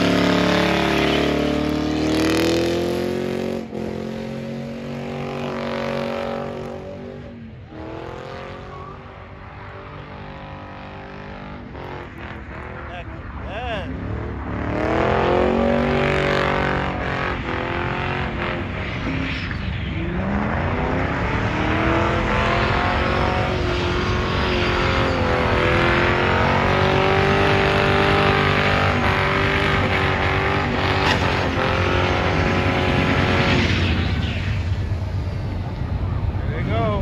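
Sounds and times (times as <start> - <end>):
car engine revving hard: 0.0 - 13.0, 13.6 - 19.2, 20.0 - 34.4.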